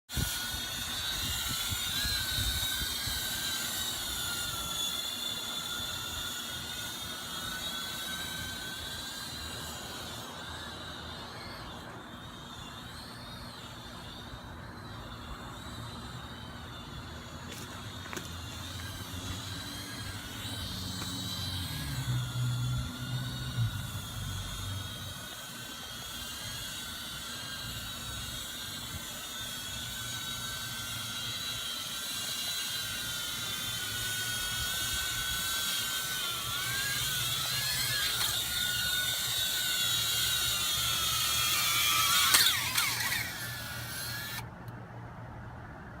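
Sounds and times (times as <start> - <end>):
quadcopter motors whining: 0.1 - 44.8.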